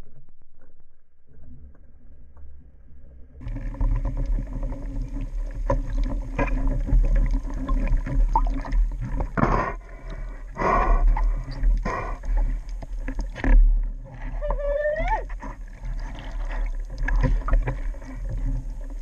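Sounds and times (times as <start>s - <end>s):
underwater low rumble: 0.0s - 19.0s.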